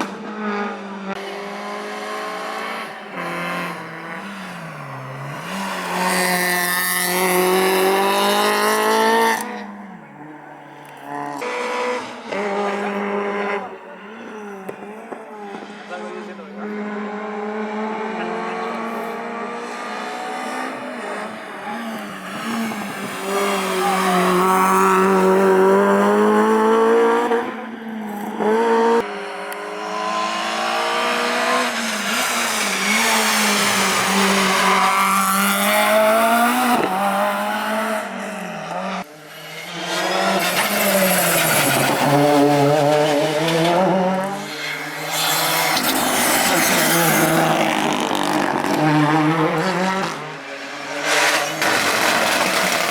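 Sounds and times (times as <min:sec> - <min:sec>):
rally car engine revving: 0:00.0 - 0:52.9.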